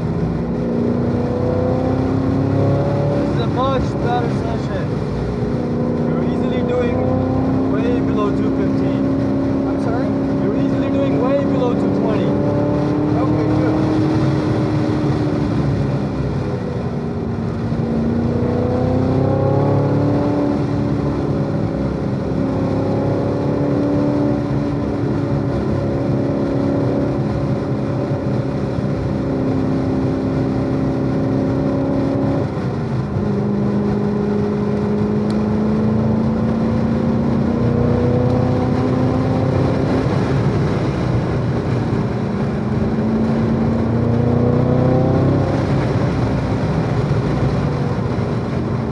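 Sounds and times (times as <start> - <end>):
car engine racing: 0.0 - 48.9
wind and tyre noise: 0.0 - 48.9.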